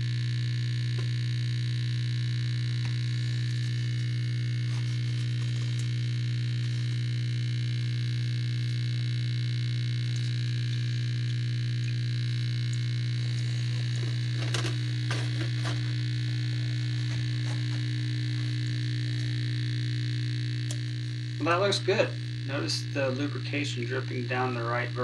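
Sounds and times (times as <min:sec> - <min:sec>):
grinder motor hum: 0:00.0 - 0:25.0
high whine: 0:00.0 - 0:25.0.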